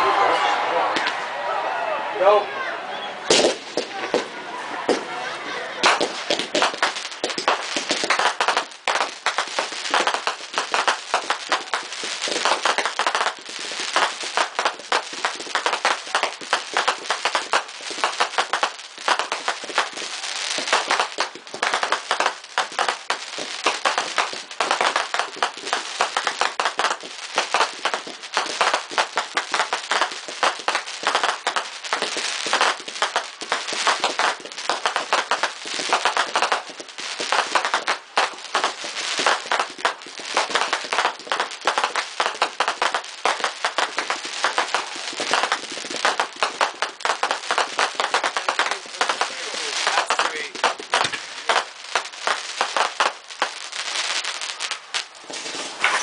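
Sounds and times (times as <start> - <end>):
fireworks bangs and crackles: 0.5 - 1.2, 3.2 - 56.0.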